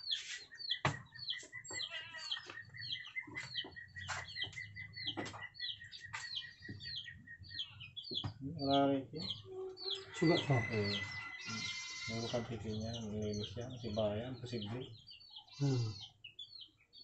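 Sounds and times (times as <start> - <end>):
chickens clucking: 0.0 - 16.2.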